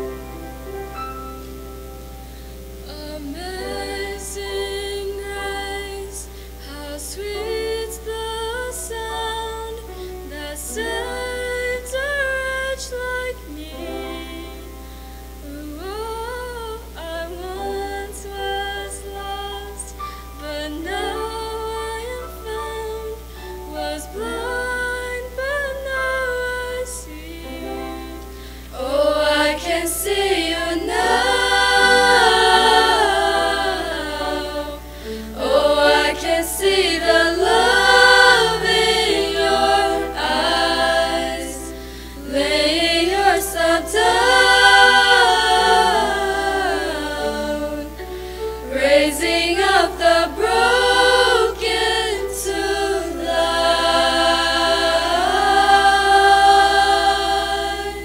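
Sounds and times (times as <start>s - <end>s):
women's choir singing: 0.0s - 0.3s, 2.8s - 58.0s.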